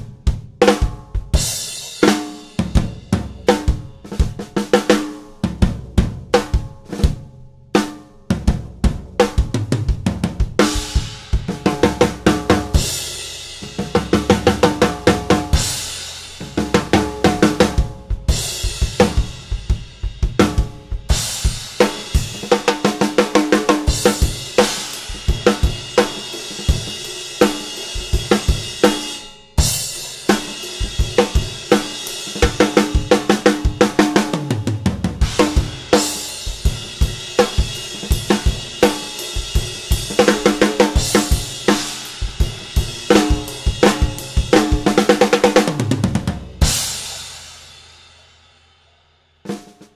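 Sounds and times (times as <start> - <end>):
bass drum: 0.0 - 1.9, 2.5 - 7.4, 8.2 - 27.1, 29.6 - 47.7.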